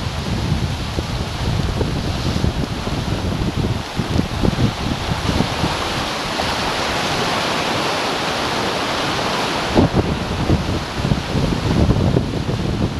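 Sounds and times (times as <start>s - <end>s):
water rushing along a hull: 0.0s - 12.9s
wind buffeting microphone: 0.0s - 12.9s.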